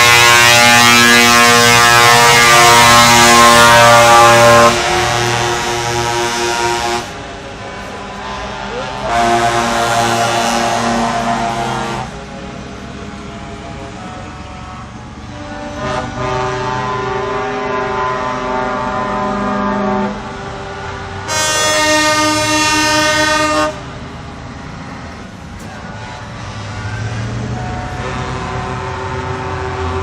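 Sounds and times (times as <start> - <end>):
truck air horn blasts: 0.0 - 7.2, 7.8 - 12.2, 13.9 - 20.2, 21.2 - 23.9, 25.7 - 30.0
engines rumbling: 0.0 - 30.0.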